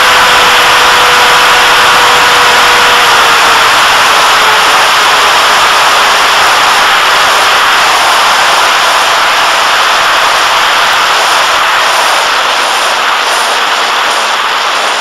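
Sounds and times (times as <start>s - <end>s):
electric motor and propeller: 0.0s - 15.0s
air rushing: 1.8s - 15.0s.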